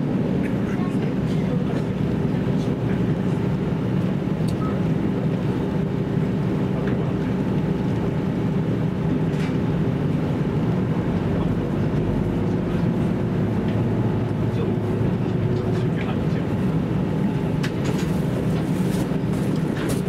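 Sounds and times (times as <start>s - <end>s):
diesel railcar engine drone: 0.0s - 20.0s.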